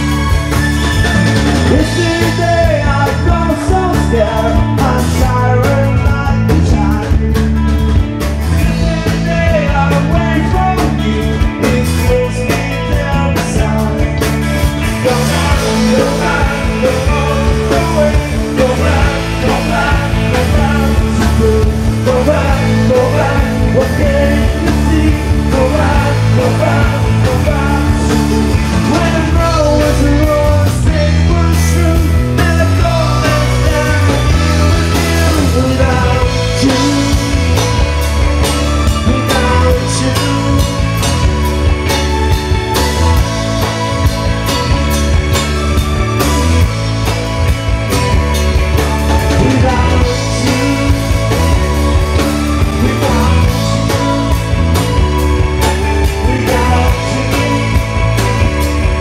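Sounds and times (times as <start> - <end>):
bass guitar: 0.0 - 59.0
drums: 0.0 - 59.0
rock music with singing: 0.0 - 59.0.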